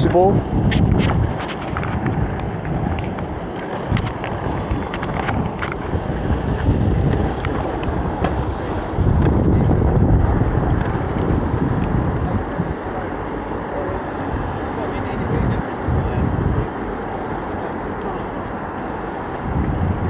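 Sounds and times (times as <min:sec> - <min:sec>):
wind on microphone: 0:00.0 - 0:20.0
skate wheels rolling on pavement: 0:00.4 - 0:20.0.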